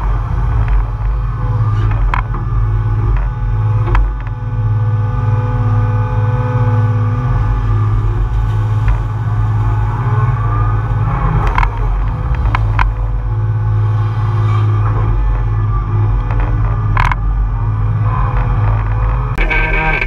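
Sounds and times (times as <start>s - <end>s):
diesel excavator engine under load: 0.0s - 20.0s
hydraulic whine: 0.0s - 20.0s.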